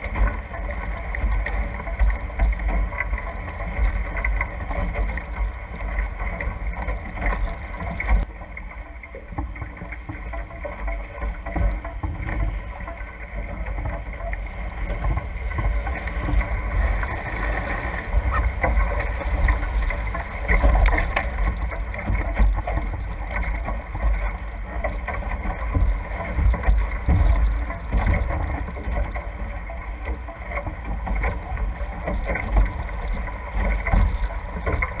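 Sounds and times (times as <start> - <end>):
water rushing and splashing off hulls: 0.0 - 35.0.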